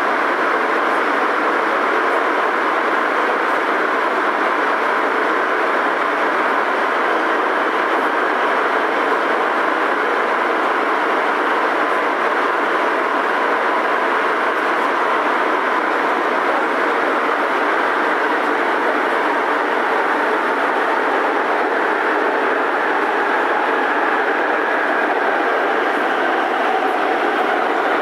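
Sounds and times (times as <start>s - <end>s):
metro train rumble and hiss: 0.0s - 28.0s.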